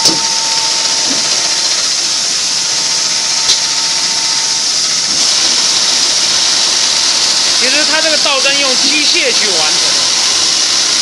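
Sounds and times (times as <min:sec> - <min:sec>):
sewing machine hiss: 0:00.0 - 0:11.0
sharp machine click: 0:00.0 - 0:11.0
thin steady machine whine: 0:00.0 - 0:11.0.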